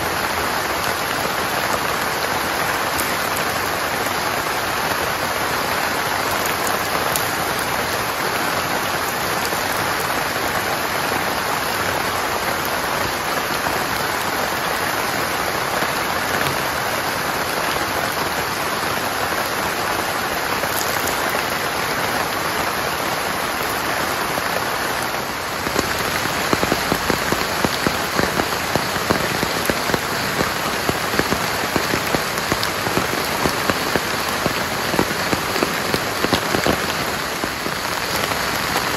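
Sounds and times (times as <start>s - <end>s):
heavy rain falling: 0.0s - 38.9s
raindrops striking a surface: 0.0s - 38.9s.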